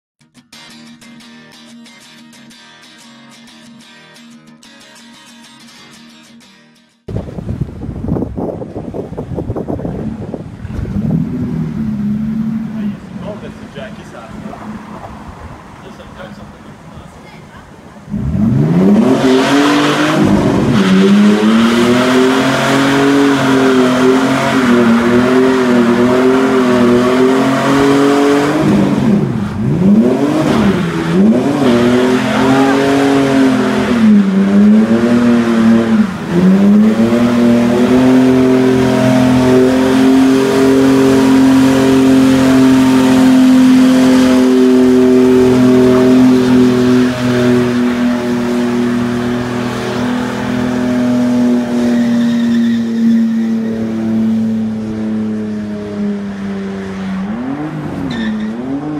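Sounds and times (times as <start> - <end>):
truck engine revving hard: 8.1 - 15.0, 18.0 - 58.9.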